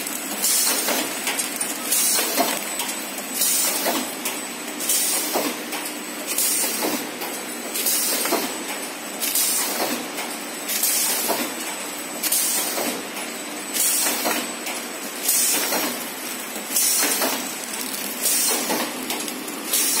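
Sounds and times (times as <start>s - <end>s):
wrapping machine running: 0.0s - 20.0s.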